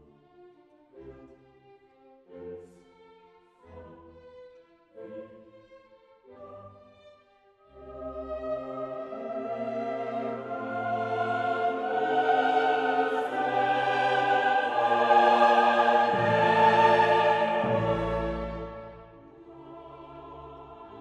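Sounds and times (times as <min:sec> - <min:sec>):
orchestral music with choir: 0:00.0 - 0:21.0.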